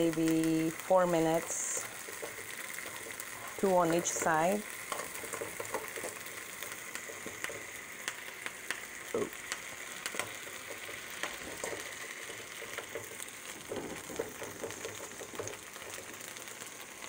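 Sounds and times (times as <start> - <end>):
shrimp sizzling in hot oil: 0.0 - 17.0
oil popping: 1.8 - 16.6.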